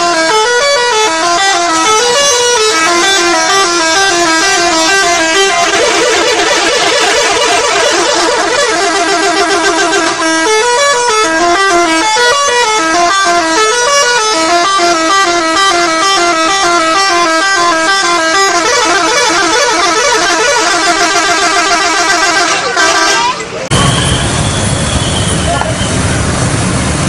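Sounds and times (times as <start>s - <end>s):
musical bus air horns: 0.0s - 25.6s.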